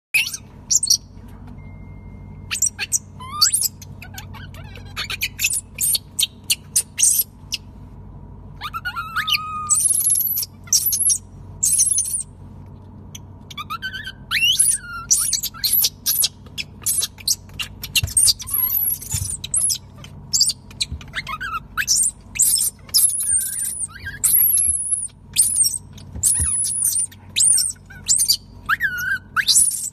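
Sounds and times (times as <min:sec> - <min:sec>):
baby monkeys squealing: 0:00.2 - 0:01.0, 0:02.5 - 0:07.6, 0:08.6 - 0:12.3, 0:13.4 - 0:29.9.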